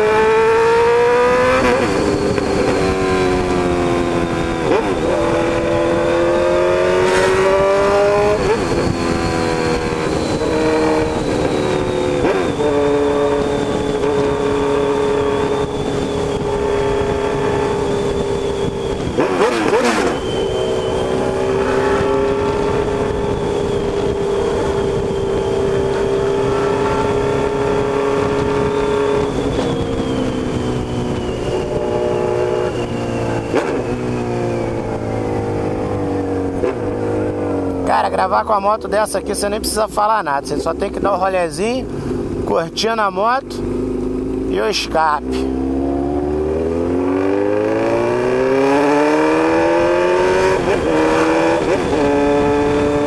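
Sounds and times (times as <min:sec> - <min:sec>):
motorcycle engine and exhaust: 0:00.0 - 0:53.0.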